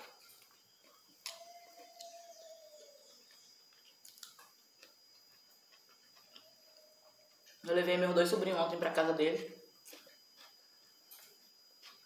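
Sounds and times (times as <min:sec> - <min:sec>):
soft chewing: 0:00.0 - 0:07.7, 0:09.7 - 0:12.0
faint steady tone: 0:00.0 - 0:12.0.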